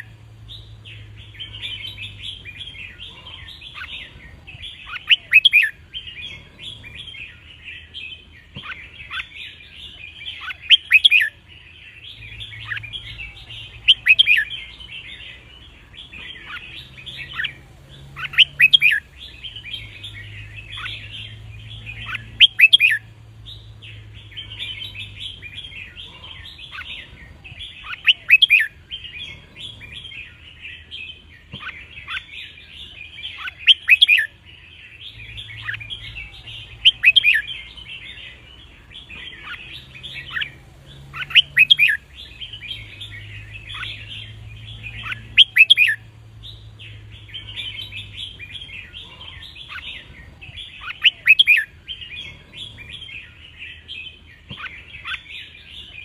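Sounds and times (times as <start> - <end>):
bulbuls chattering: 0.0 - 56.0
bulbuls singing: 0.0 - 56.0.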